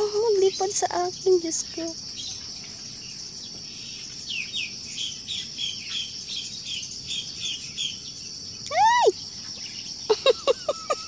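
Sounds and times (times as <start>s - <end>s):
bird chirping: 0.0s - 11.0s
insects trilling: 0.0s - 11.0s.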